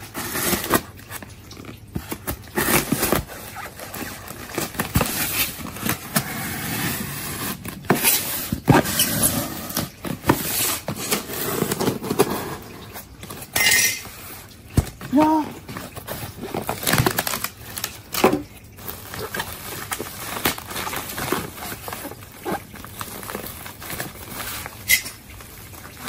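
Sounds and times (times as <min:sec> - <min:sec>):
food packaging rustling: 0:00.0 - 0:26.0.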